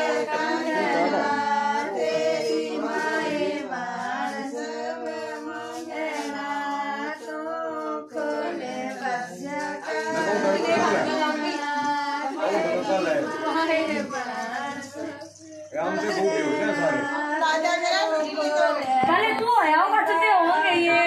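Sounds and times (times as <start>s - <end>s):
women singing together: 0.0s - 21.0s.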